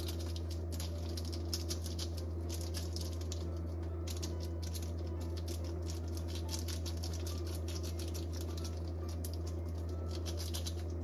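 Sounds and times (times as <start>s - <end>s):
low electrical hum: 0.0s - 11.0s
pots crackling and bubbling: 0.0s - 11.0s.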